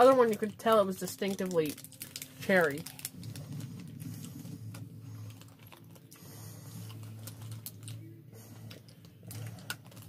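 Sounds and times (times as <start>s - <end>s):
low steady hum: 0.0s - 10.0s
plastic wrappers rustling: 0.0s - 10.0s.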